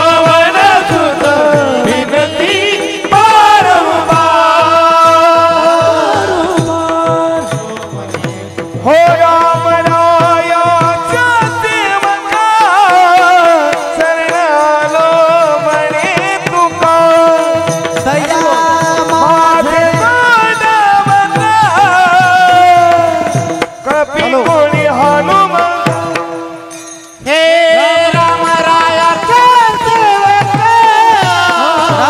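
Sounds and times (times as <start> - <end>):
men singing devotional song: 0.0 - 32.0
steady drum strokes: 0.0 - 32.0.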